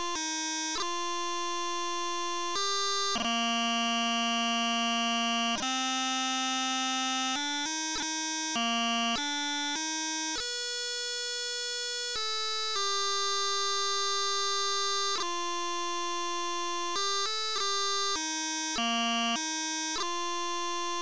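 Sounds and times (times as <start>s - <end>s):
electronic bagpipe melody: 0.0s - 21.0s.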